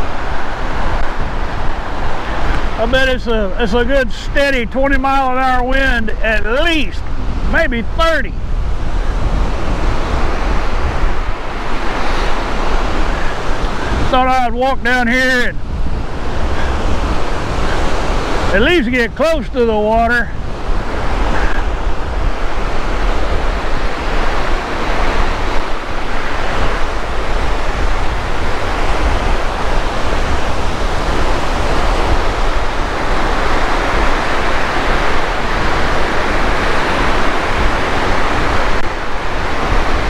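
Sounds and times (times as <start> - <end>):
waves washing onto sandy beach: 0.0 - 40.0
wind buffeting microphone: 0.0 - 40.0.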